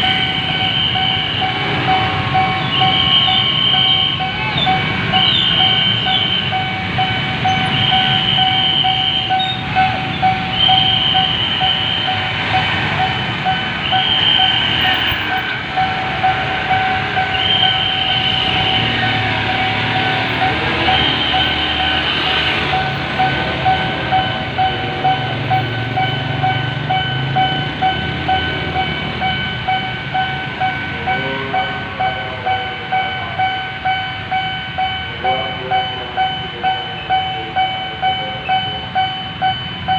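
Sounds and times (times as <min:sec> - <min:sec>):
higher alarm tone: 0:00.0 - 0:39.9
level crossing alarm pulsing: 0:00.0 - 0:39.9
train rumbling past: 0:00.0 - 0:39.9.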